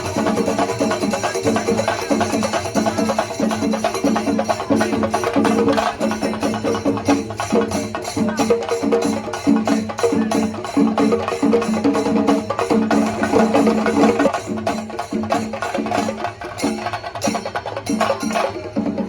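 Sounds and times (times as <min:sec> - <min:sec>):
chenda drums: 0:00.0 - 0:19.0
cymbals: 0:00.0 - 0:19.0.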